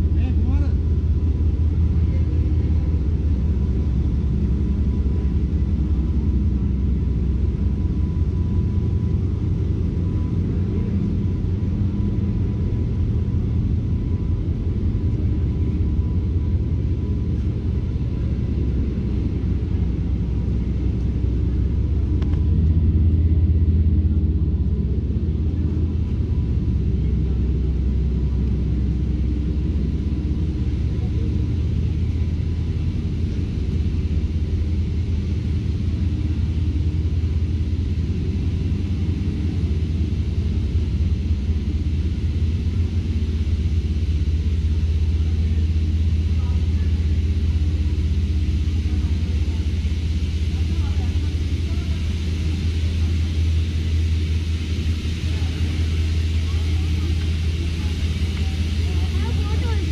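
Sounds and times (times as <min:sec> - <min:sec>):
engine idling rumble: 0:00.0 - 0:59.9.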